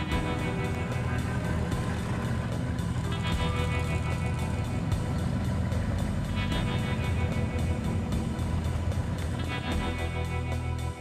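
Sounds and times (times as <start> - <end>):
deep steady low rumble: 0.0 - 11.0
instrumental music with sustained tones: 0.0 - 11.0.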